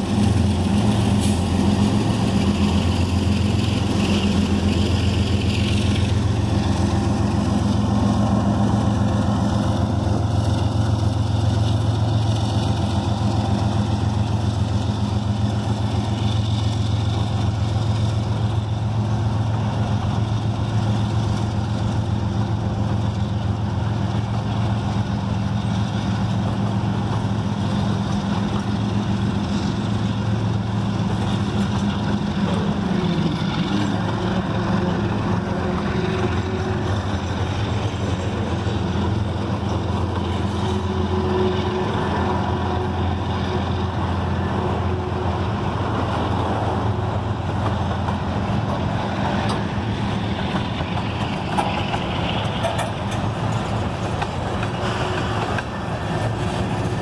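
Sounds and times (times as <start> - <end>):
freight cars rumbling on rails: 0.0 - 57.0
locomotive engines droning: 0.0 - 57.0.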